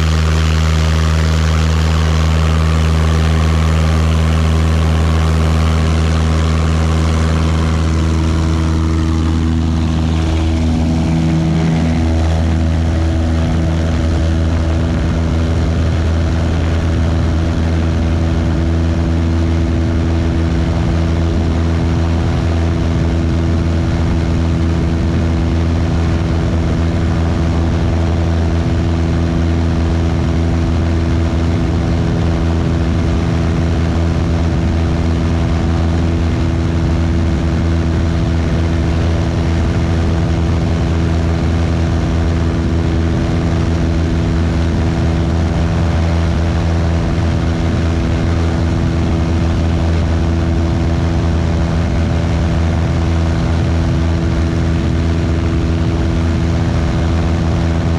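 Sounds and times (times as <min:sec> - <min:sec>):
propeller plane engine drone: 0:00.0 - 0:57.9
rushing air noise: 0:00.0 - 0:57.9.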